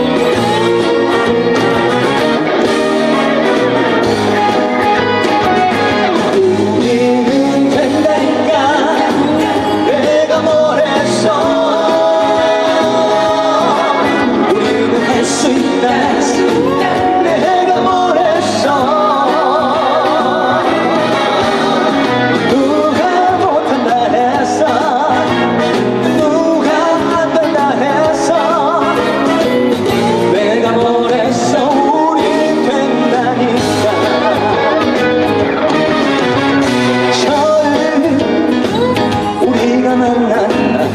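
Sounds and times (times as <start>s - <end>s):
loud band backing track: 0.0s - 40.9s
man singing: 0.0s - 40.9s.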